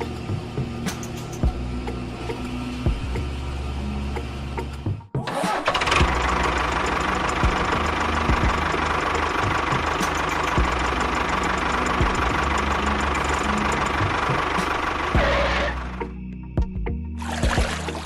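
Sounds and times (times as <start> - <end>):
motor running with rattle and whine: 0.0 - 5.0, 5.6 - 16.2.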